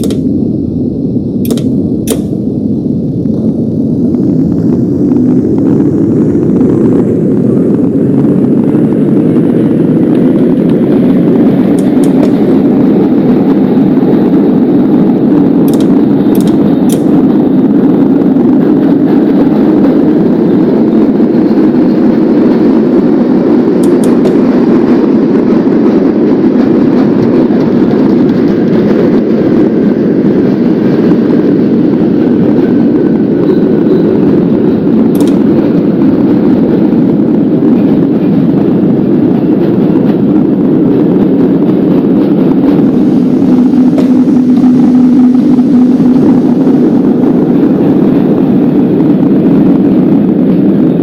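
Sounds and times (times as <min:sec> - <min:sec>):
subway train rumbling: 0:00.0 - 0:51.0.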